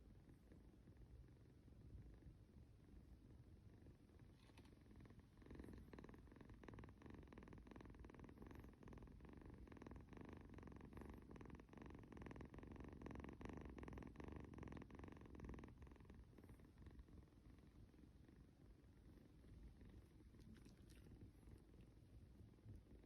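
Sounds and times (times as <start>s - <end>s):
kitten purring: 0.0s - 23.0s.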